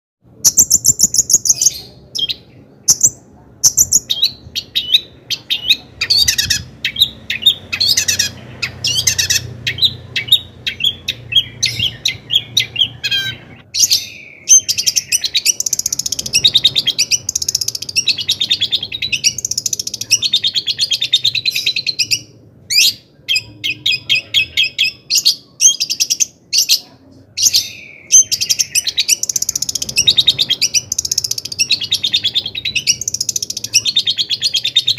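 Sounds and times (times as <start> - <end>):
bird singing chirps and trills: 0.4 - 34.9.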